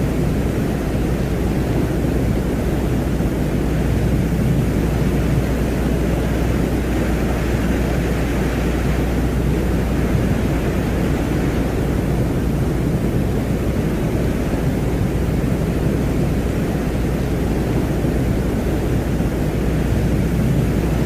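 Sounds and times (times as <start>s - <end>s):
low noise drone: 0.0s - 21.0s.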